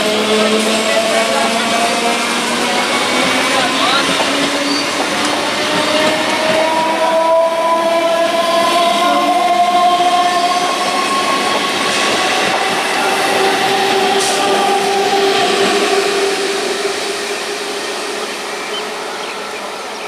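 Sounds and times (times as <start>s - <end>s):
wheels rushing on rails: 0.0s - 20.0s.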